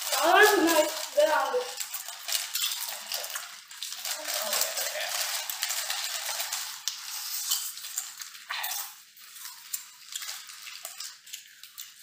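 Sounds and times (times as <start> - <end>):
plastic chip packets crinkling: 0.0 - 12.0.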